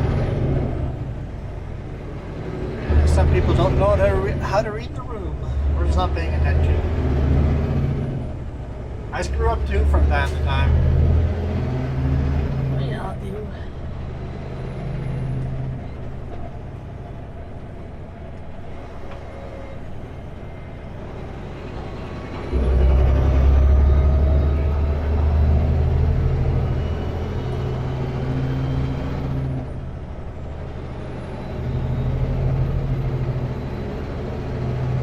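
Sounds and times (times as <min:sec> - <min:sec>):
diesel truck engine: 0:00.0 - 0:35.0.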